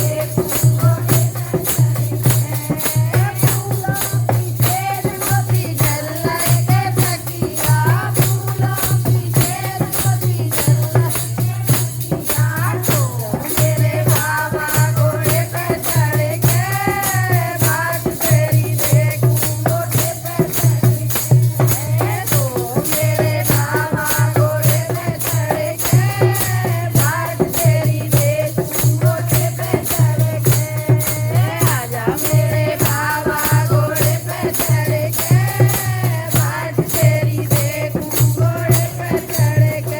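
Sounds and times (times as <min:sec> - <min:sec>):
fast percussion beat: 0:00.0 - 0:39.9.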